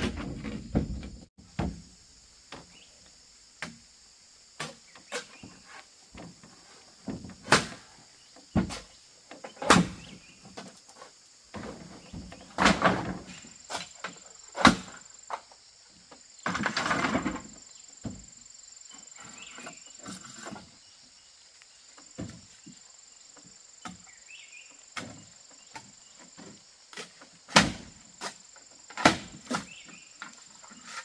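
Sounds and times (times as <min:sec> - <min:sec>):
steady high hiss: 0:01.4 - 0:31.0.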